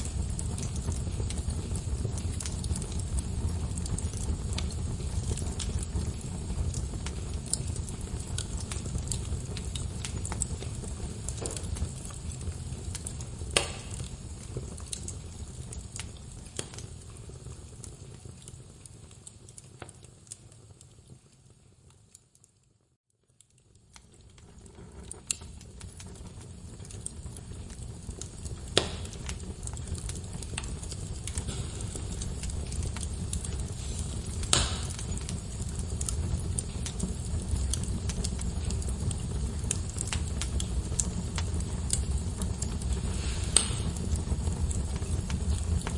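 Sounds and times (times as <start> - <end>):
sharp pops of fire: 0.0 - 21.2, 23.4 - 45.9
log fire crackling: 0.0 - 45.9.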